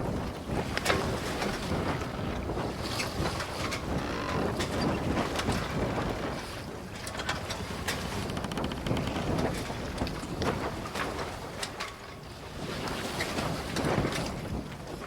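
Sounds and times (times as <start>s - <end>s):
waves splashing and rushing: 0.0s - 15.0s
wind buffeting microphone: 0.0s - 15.0s.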